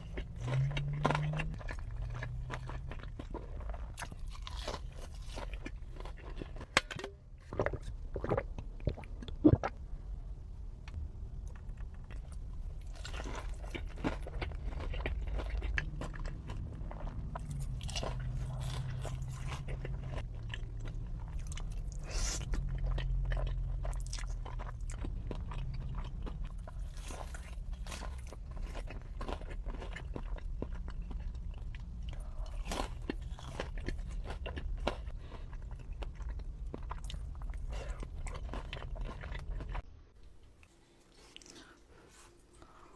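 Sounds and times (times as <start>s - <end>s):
crunchy chewing: 0.0s - 6.7s, 11.5s - 39.9s, 40.5s - 42.9s.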